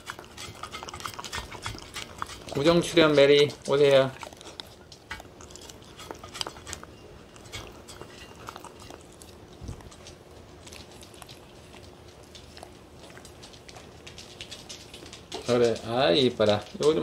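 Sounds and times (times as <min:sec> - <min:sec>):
dog licking and chewing food: 0:00.0 - 0:17.0.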